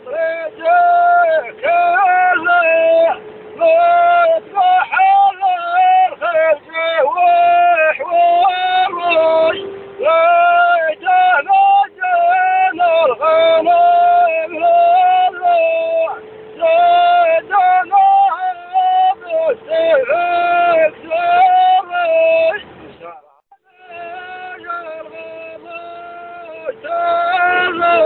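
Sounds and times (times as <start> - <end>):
high yodel-like singing: 0.0 - 28.0.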